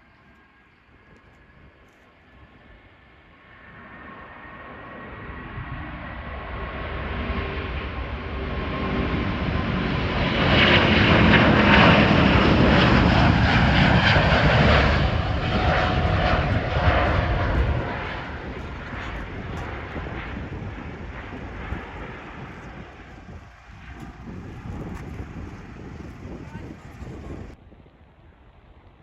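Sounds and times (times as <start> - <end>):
airliner engines passing: 0.0 - 29.0.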